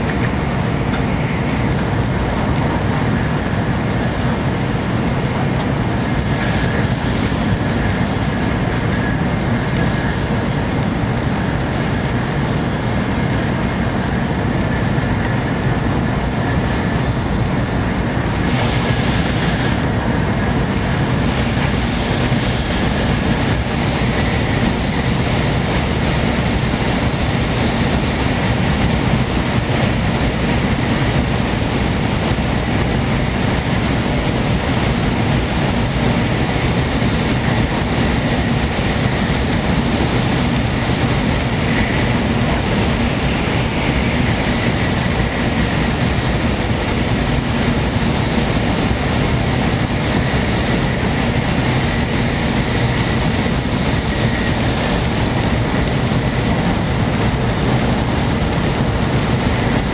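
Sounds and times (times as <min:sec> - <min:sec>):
train running noise inside car: 0:00.0 - 0:59.9.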